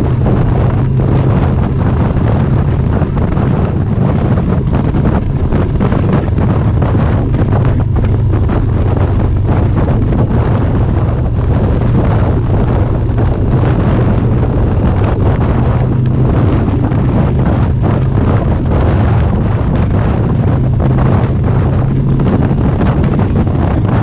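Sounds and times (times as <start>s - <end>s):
motorcycle engine cruising: 0.0s - 24.0s
wind buffeting microphone: 0.0s - 24.0s.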